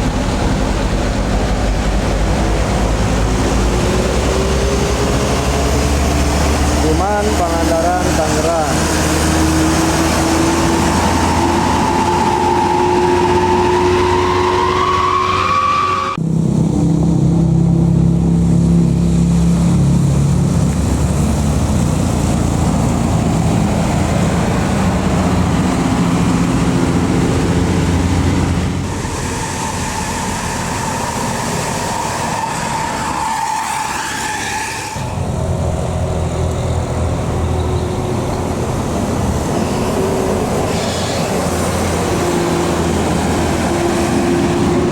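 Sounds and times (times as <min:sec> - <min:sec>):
bus and truck engines under load: 0:00.0 - 0:44.9
rising whine: 0:00.0 - 0:44.9.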